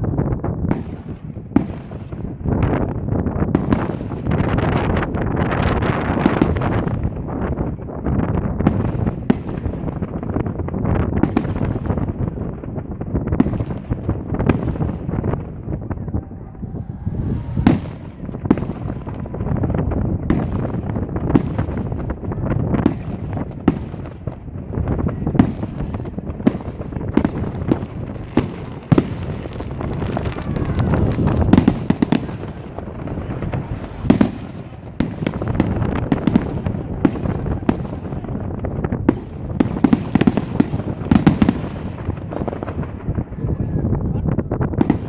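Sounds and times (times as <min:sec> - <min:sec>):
fireworks bursting with sharp bangs: 0:00.0 - 0:45.0.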